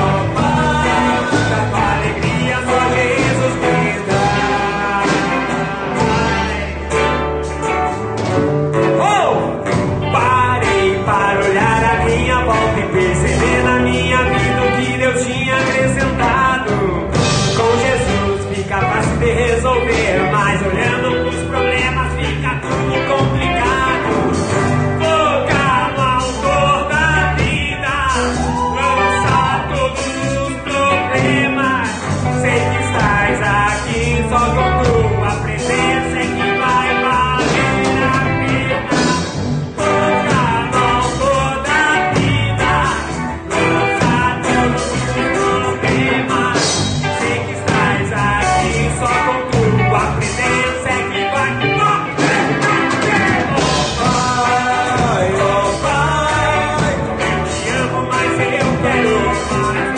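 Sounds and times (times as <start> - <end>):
person singing: 0.0 - 8.0, 8.7 - 59.9
band playing worship song: 0.0 - 59.9
bass line: 0.0 - 59.9
guitar: 0.0 - 59.9.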